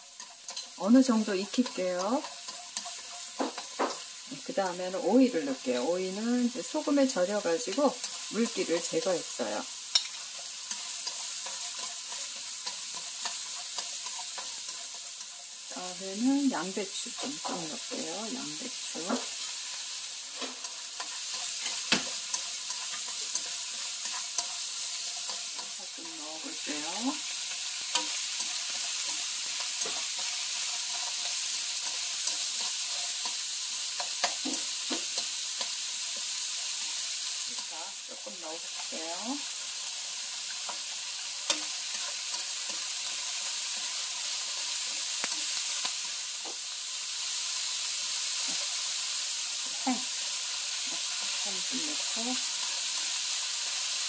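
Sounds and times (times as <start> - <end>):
spatula scraping a pan: 0.0 - 4.6, 6.6 - 46.6
vegetables sizzling in oil: 0.0 - 54.0.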